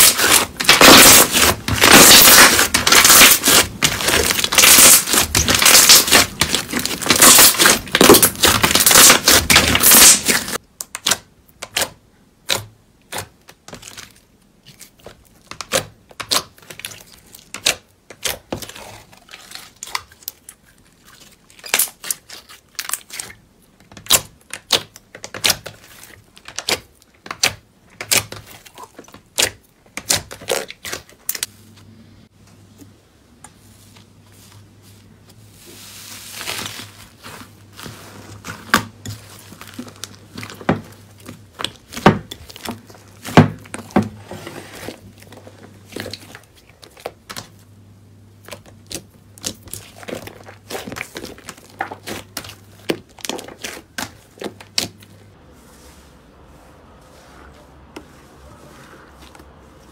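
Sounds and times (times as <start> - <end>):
slime crackling: 0.0 - 31.5, 34.4 - 47.7, 48.3 - 59.9.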